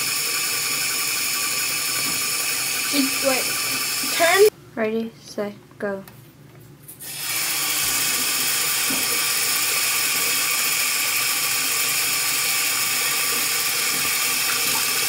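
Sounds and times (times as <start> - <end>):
tap water running into basin: 0.0 - 4.5, 7.0 - 15.0.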